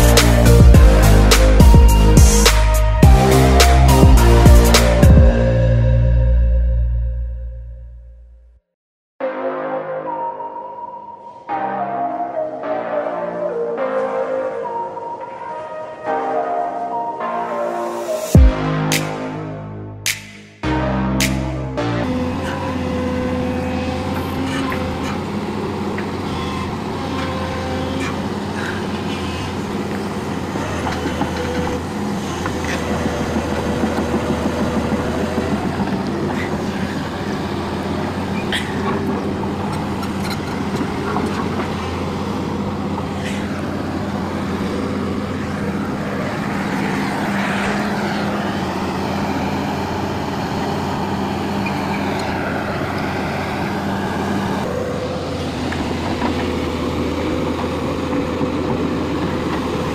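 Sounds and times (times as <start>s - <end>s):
heavy vehicle engine running: 0.0s - 7.0s, 18.4s - 59.9s.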